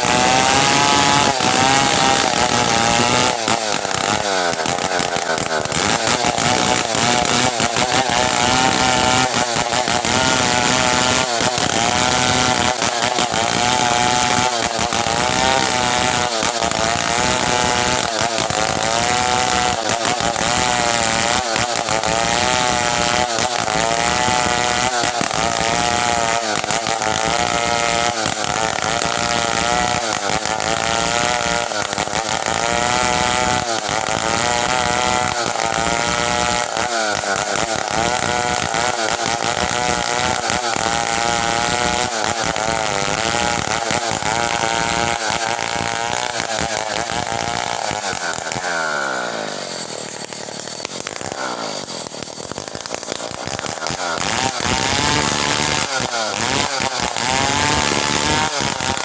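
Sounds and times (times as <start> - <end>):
chainsaw cutting hardwood: 0.0 - 59.0.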